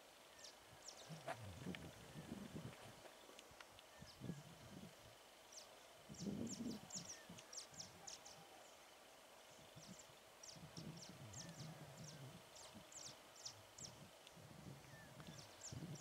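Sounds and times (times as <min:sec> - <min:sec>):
faint low murmur: 0:00.1 - 0:16.0
small birds chirping: 0:00.2 - 0:16.0.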